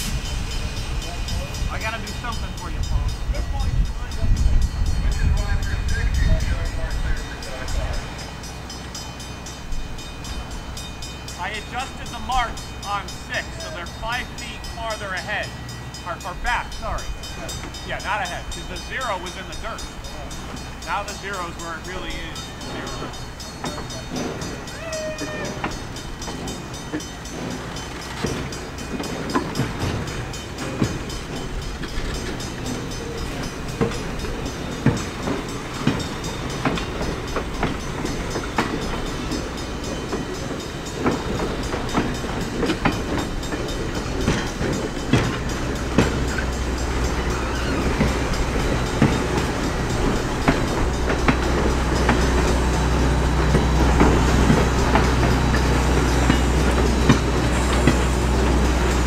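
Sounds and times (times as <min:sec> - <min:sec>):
low train rumble: 0:00.0 - 0:59.0
train wheels clicking over rail joints: 0:00.0 - 0:59.0.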